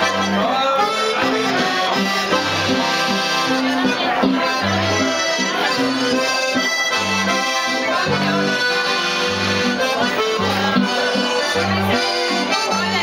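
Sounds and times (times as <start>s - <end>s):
piano accordion playing: 0.0s - 13.0s.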